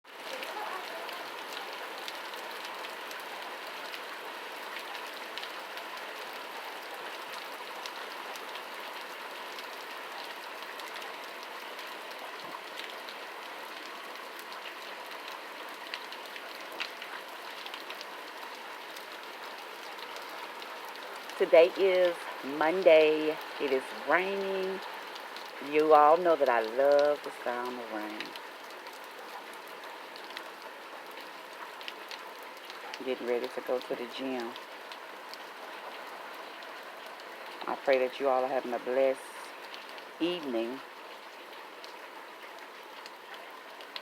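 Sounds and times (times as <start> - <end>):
raindrop ticks: 0.1 - 44.0
steady rain hiss: 0.1 - 44.0.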